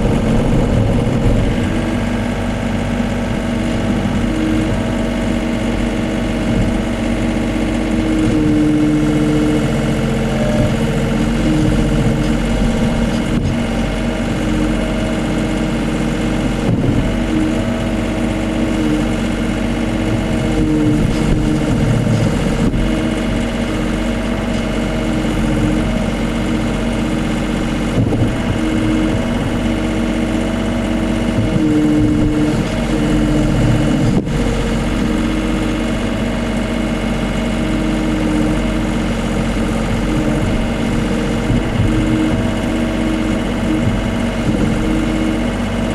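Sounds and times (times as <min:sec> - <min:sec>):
excavator diesel engine running: 0:00.0 - 0:45.9
hydraulics moving: 0:00.0 - 0:45.9.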